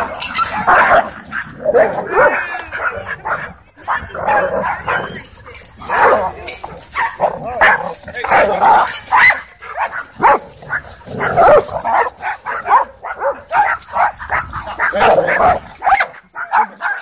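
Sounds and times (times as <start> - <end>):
dogs barking and yipping: 0.0 - 17.0.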